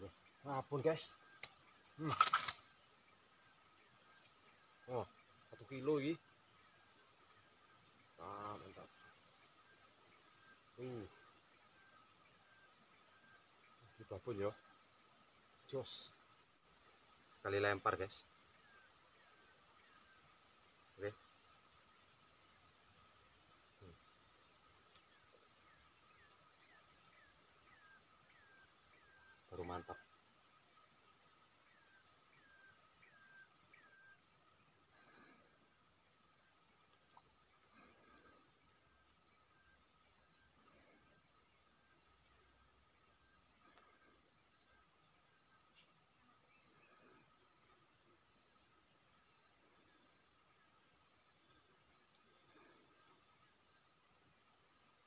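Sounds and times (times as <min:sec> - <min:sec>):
high insect buzz: 0:00.0 - 0:55.0.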